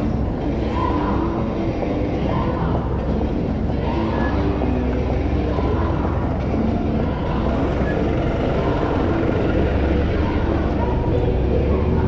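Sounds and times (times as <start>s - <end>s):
bus engine rumbling: 0.0s - 12.0s
city street traffic: 0.0s - 12.0s.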